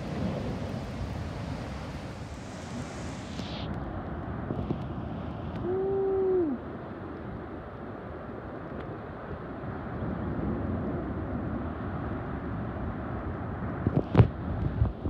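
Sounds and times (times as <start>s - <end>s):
surf breaking rumble: 0.0s - 15.0s
wind on microphone: 0.0s - 15.0s.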